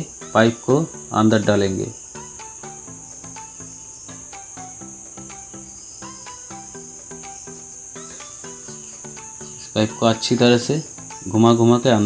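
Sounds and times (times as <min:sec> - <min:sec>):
crickets trilling: 0:00.0 - 0:12.0
soft plucked background music: 0:00.0 - 0:12.0.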